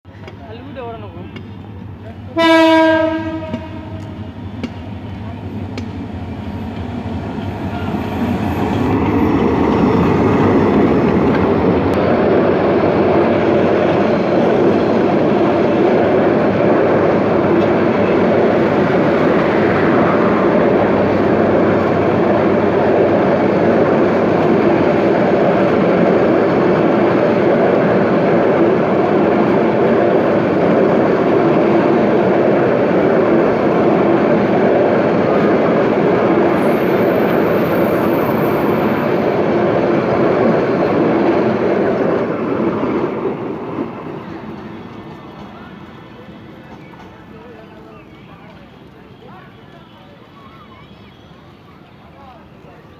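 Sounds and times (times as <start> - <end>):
train wheels rumbling on rails: 0.1 - 52.9.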